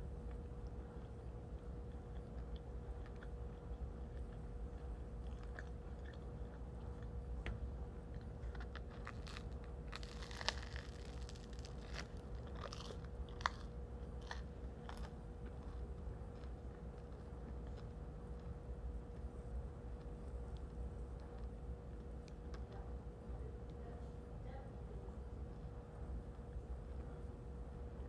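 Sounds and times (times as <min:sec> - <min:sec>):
crunching bread crust: 0:00.0 - 0:23.8.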